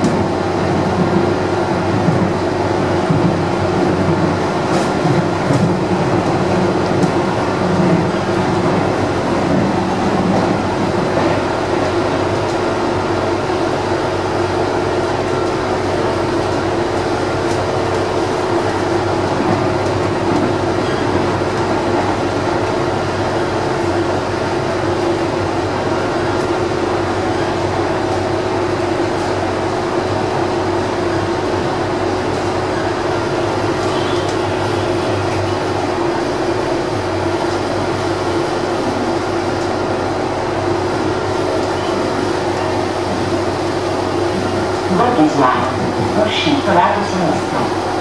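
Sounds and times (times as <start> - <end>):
constant hum: 0.0 - 48.0
train running along track: 0.0 - 48.0.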